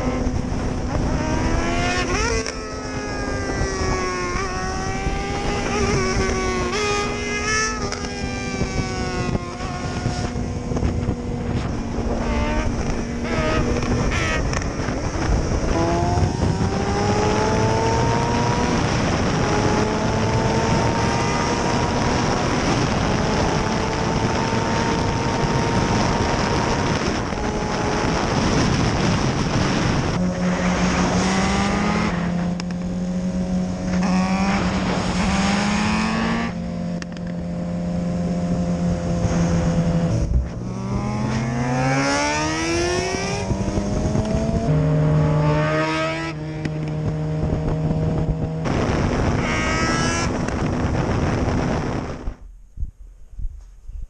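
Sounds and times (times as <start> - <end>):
motorcycle engine accelerating: 0.0 - 52.6
wind rush on microphone: 0.0 - 54.0.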